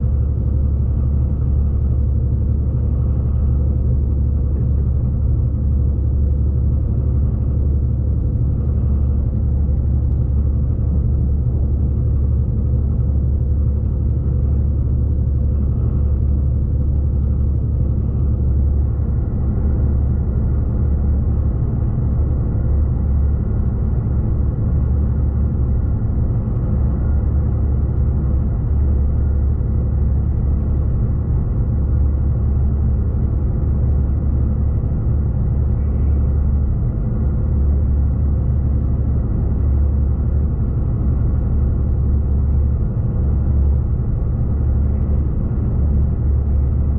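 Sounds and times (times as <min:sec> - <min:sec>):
train rumbling heard on board: 0:00.0 - 0:46.9.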